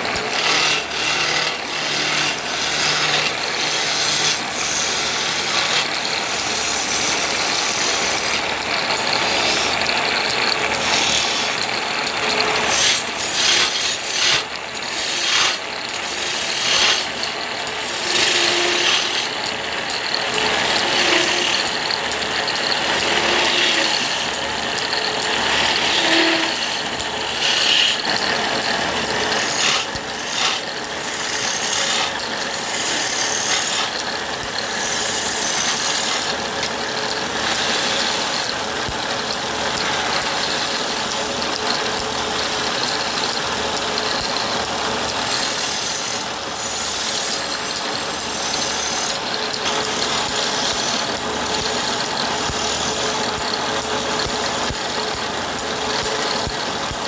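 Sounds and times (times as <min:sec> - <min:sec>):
faint motor hum: 0:00.0 - 0:56.2
lathe tool grinding spinning wood: 0:00.0 - 0:57.0.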